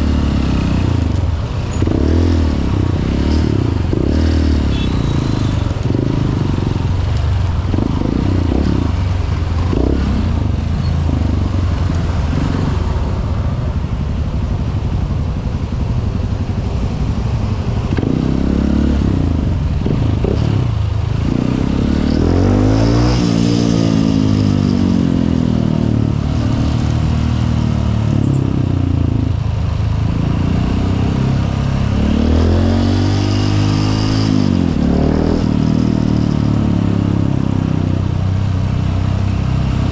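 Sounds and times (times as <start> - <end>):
motorcycle engine revving: 0.0 - 14.0, 16.3 - 39.9.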